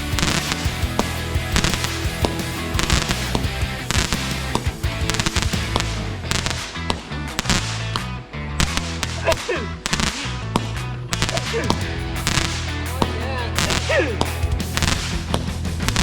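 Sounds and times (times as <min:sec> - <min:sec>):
background music with bass line: 0:00.0 - 0:16.0
fireworks bangs and crackling: 0:00.0 - 0:16.0.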